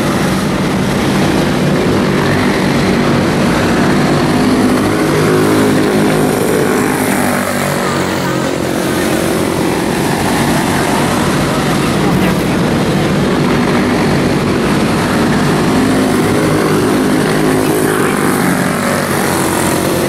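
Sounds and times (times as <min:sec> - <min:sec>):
race car engines running: 0:00.0 - 0:20.0.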